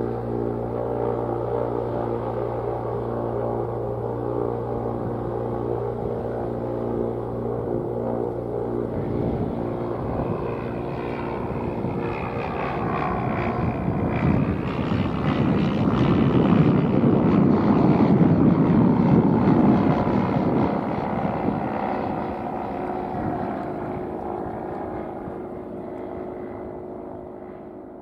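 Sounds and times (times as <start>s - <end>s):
light aircraft propeller engine: 0.0s - 28.0s.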